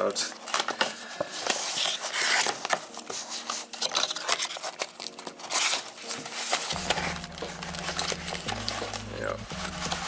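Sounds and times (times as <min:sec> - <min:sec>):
cardboard box scraping and rustling: 0:01.3 - 0:04.8, 0:05.4 - 0:10.0.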